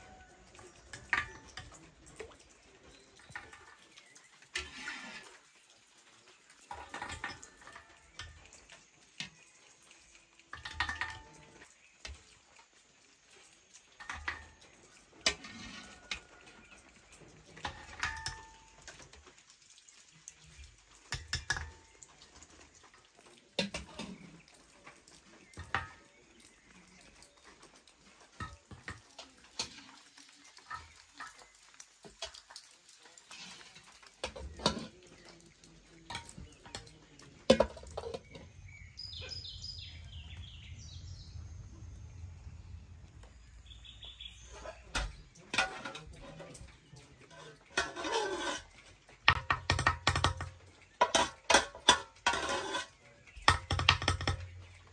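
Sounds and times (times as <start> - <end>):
liquid sloshing in clay jug: 0.0 - 19.5, 20.1 - 41.4, 44.3 - 54.9.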